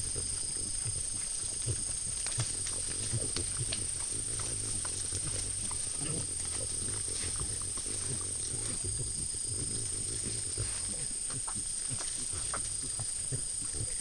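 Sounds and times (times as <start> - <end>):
peccaries grunting: 0.0 - 14.0
chewing clicks and crackles: 0.2 - 14.0.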